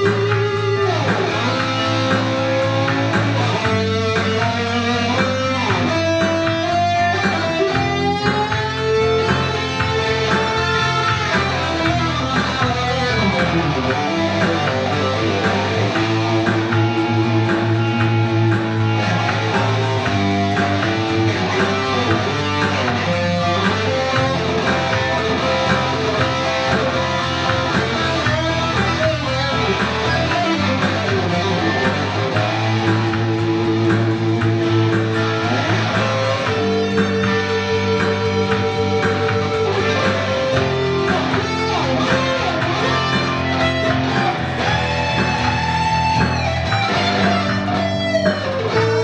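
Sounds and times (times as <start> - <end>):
rock band instrumental: 0.0 - 49.0.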